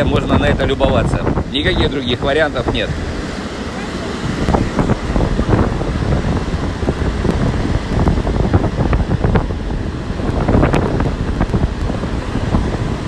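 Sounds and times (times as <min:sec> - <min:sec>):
storm surf breaking: 0:00.0 - 0:13.0
wind buffeting microphone: 0:00.0 - 0:13.0.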